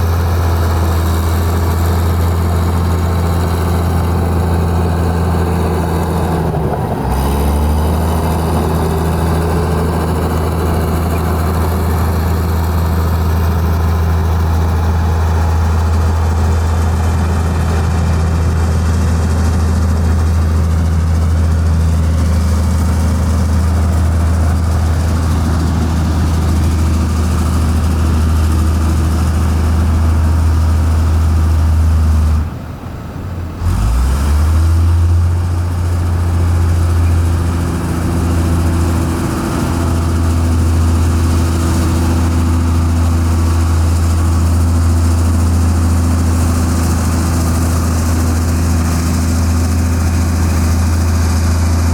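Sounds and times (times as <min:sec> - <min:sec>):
heavy diesel engine running: 0:00.0 - 0:51.9.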